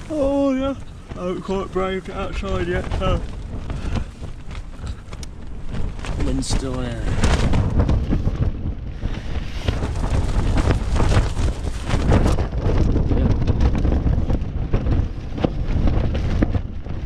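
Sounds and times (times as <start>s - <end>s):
tent fabric snapping: 0.0s - 16.6s
wind rumble on microphone: 0.0s - 17.0s.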